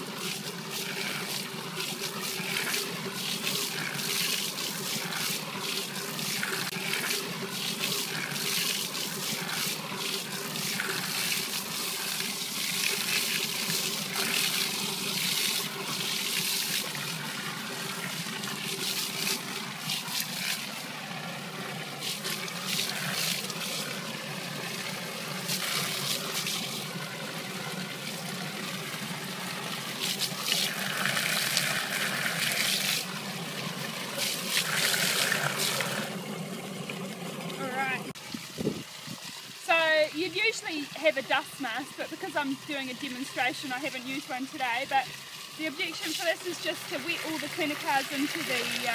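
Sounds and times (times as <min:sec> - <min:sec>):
water jet splashing into tank: 0:00.0 - 0:48.9.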